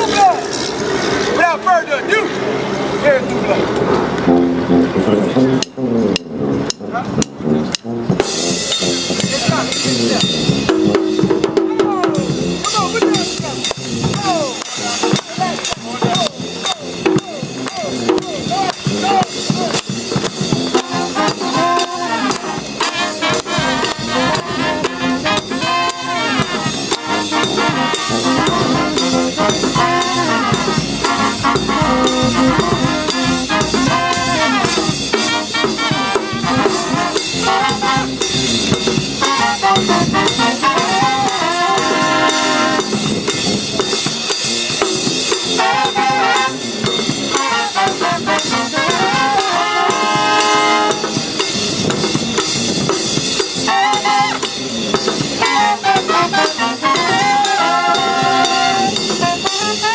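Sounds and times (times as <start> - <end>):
brass band playing jazz: 0.0 - 59.9.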